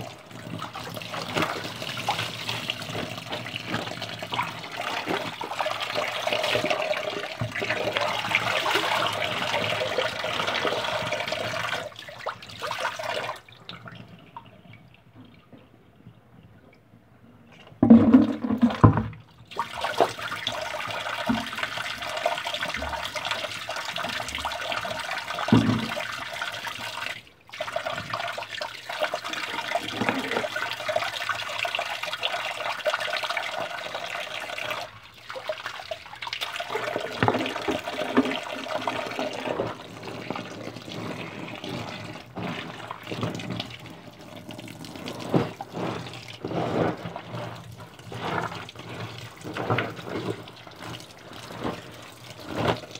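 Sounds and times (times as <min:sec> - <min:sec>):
tap water running into sink: 0:00.0 - 0:14.1, 0:17.8 - 0:52.9.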